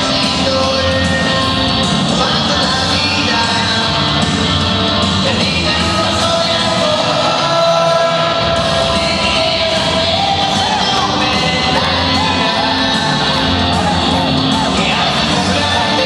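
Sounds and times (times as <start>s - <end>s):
dance music with singing: 0.0s - 16.0s.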